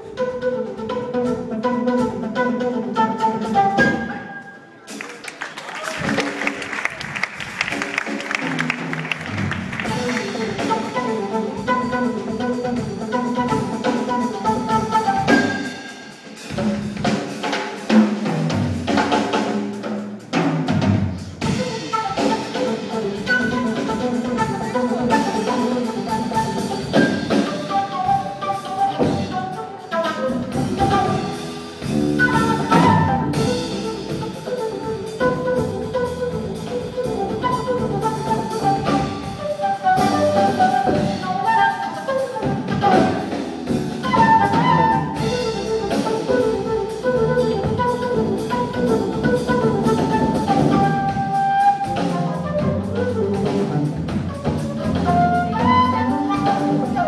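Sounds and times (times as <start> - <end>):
flute melody: 0.0 - 17.5, 21.3 - 57.0
drum kit: 0.0 - 57.0.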